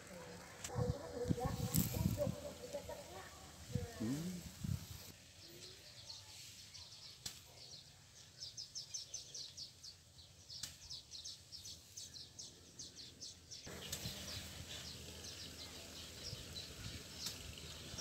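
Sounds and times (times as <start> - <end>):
low outdoor background: 0.0 - 18.0.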